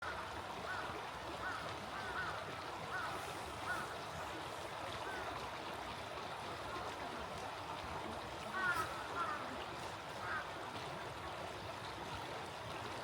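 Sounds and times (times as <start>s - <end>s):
small stream flowing: 0.0s - 13.0s.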